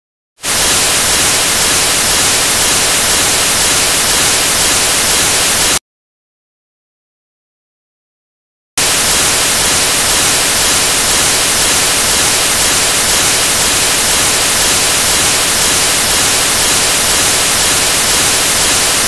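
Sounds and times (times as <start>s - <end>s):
static hiss: 0.4s - 5.8s, 8.8s - 19.0s.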